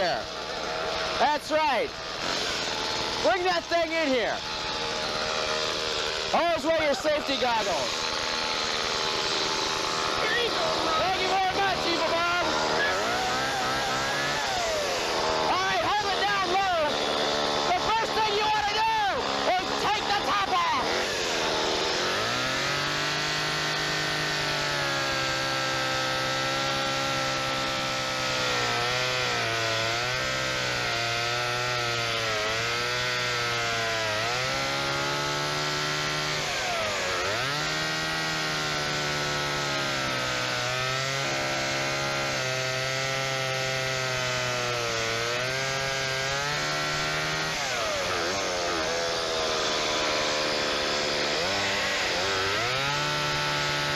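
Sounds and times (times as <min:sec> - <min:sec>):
chainsaw cutting: 0:00.0 - 0:53.9.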